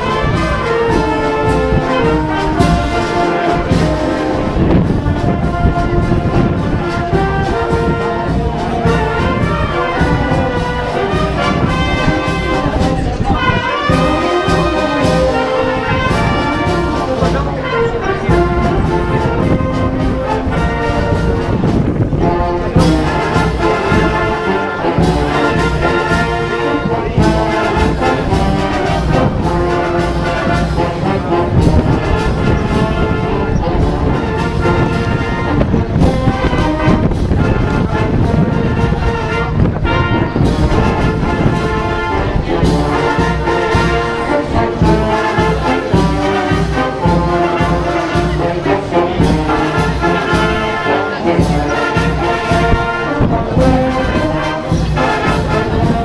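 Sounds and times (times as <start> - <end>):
wind band playing: 0.0 - 56.0.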